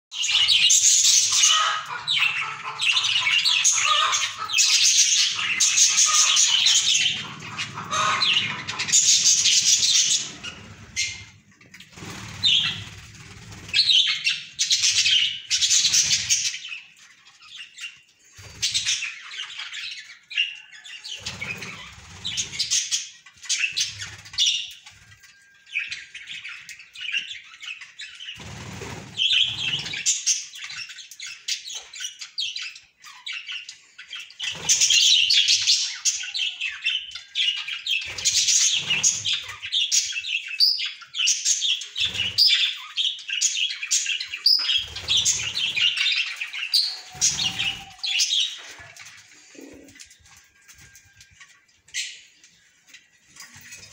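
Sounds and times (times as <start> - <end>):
budgerigars chattering: 0.1 - 24.8, 25.7 - 49.9.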